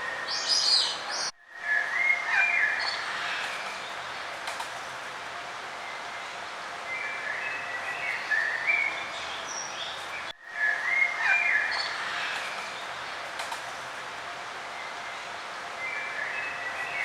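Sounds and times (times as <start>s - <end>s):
songbirds singing: 0.0s - 4.3s, 5.8s - 13.4s, 14.7s - 17.0s
steady outdoor hiss: 0.0s - 17.0s.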